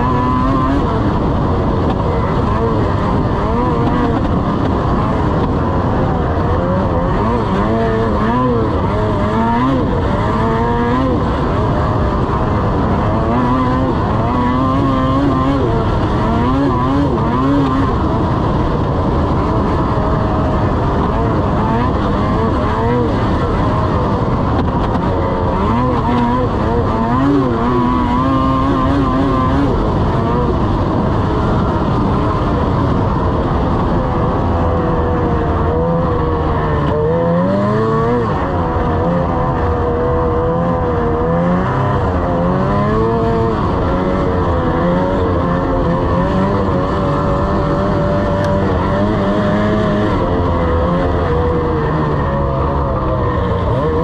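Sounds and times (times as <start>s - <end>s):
snowmobile engine revving: 0.0s - 54.0s
track and snow noise: 0.0s - 54.0s.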